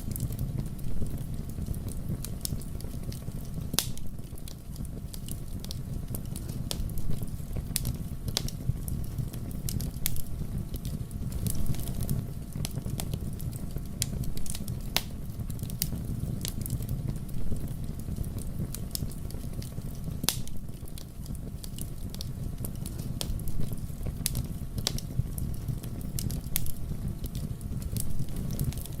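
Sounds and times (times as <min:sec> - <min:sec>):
burning wood crackling and popping: 0:00.0 - 0:29.0
fire flames rumbling: 0:00.0 - 0:29.0.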